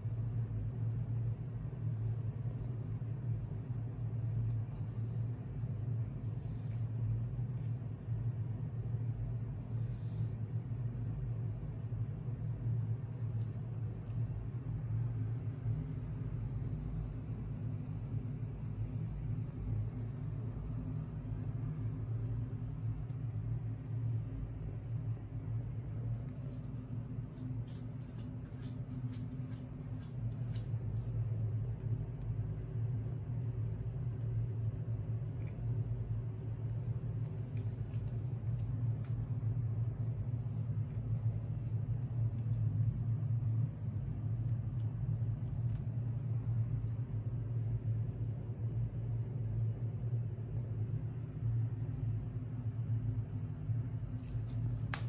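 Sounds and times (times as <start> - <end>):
low rumble: 0.0 - 55.0
steady low hum: 0.0 - 55.0.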